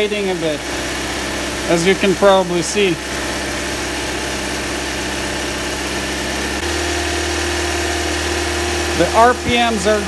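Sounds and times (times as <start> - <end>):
car engine at raised idle: 0.0 - 10.0.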